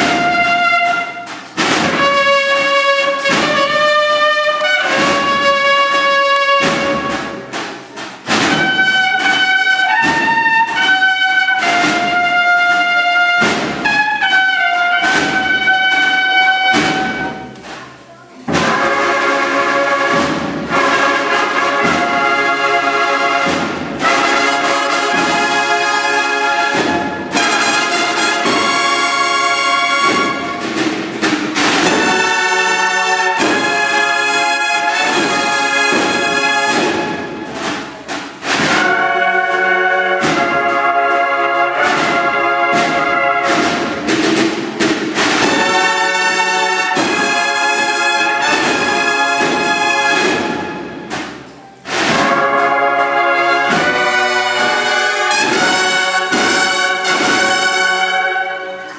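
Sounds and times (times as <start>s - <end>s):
brass section playing chords: 0.0s - 7.6s, 8.2s - 17.7s, 18.5s - 58.9s.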